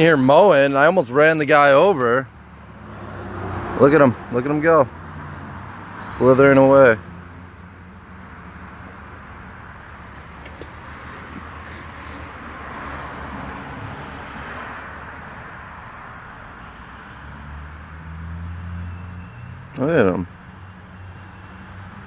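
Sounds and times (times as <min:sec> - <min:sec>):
riding lawn mower engine: 0:00.0 - 0:22.0.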